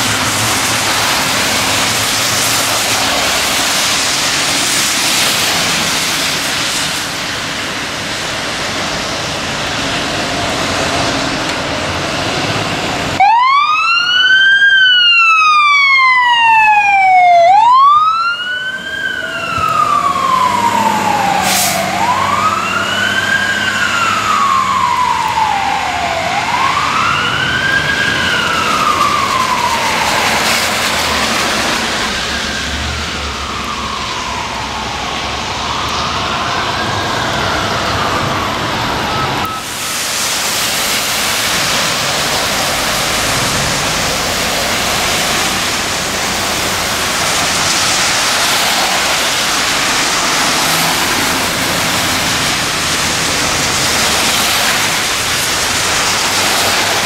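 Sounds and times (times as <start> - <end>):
rain hissing: 0.0 - 13.2, 19.0 - 34.2, 39.4 - 57.0
fire engine siren wailing: 0.0 - 57.0
traffic on wet pavement: 0.0 - 57.0.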